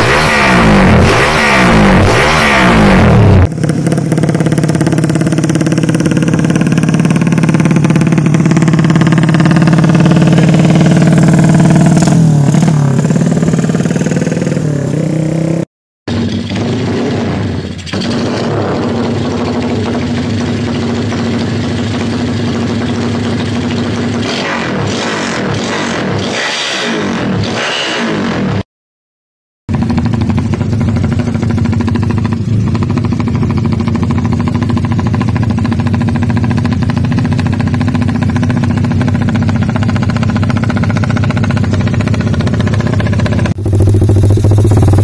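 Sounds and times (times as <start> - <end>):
motorcycle engine revving: 0.0 - 28.6, 29.7 - 45.0
motorcycle engine idling: 3.5 - 24.2, 29.7 - 45.0.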